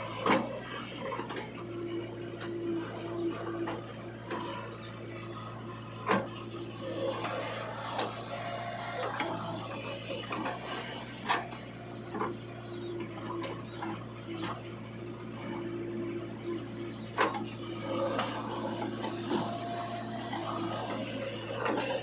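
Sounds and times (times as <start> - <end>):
small motor humming: 0.0 - 22.0.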